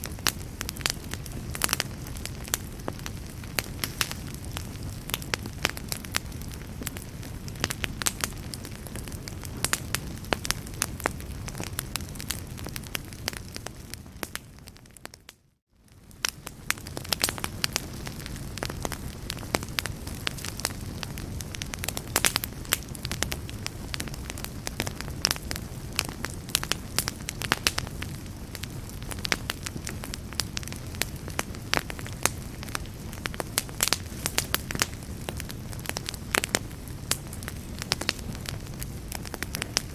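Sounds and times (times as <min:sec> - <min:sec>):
flames rumbling: 0:00.0 - 0:39.9
wood fire crackling and popping: 0:00.0 - 0:39.9.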